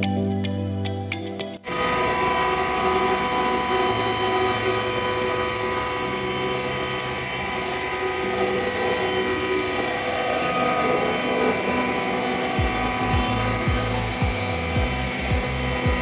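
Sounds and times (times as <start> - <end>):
pulverizer running with high whine: 1.6 - 16.0.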